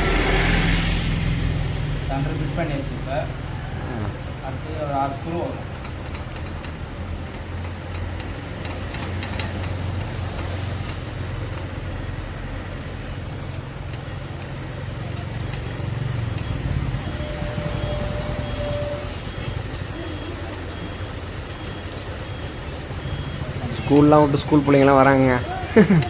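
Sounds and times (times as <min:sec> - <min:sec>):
electric fan humming: 0:00.0 - 0:26.0
fan squeaking: 0:00.0 - 0:26.0.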